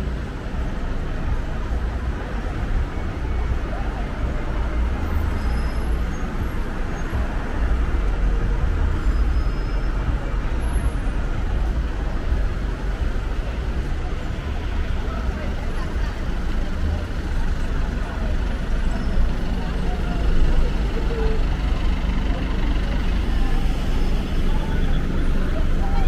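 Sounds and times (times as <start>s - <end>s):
passers-by talking: 0.0s - 26.0s
road traffic: 0.0s - 26.0s.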